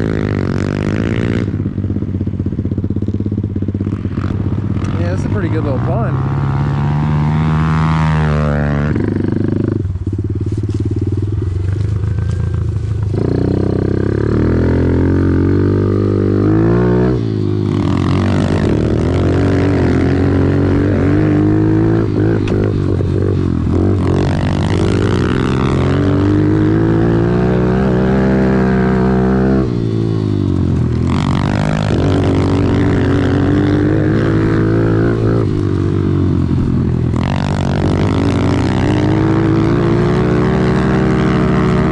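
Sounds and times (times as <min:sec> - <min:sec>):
off-road vehicle engine: 0:00.0 - 0:41.9.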